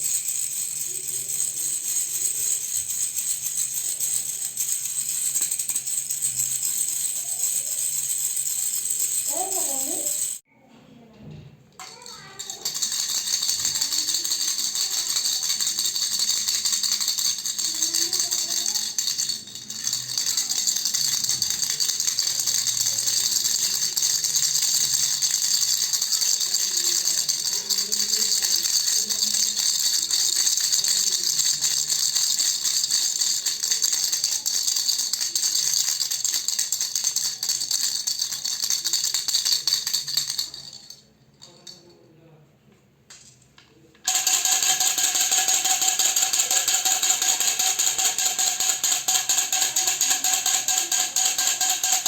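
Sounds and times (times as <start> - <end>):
baby rattle shaken: 0.0 - 10.4, 11.8 - 42.0, 44.1 - 52.0.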